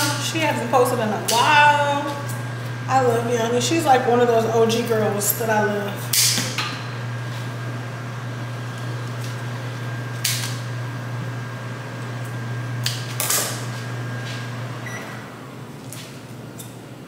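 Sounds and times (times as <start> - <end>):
low hum with high whine: 0.0 - 17.0.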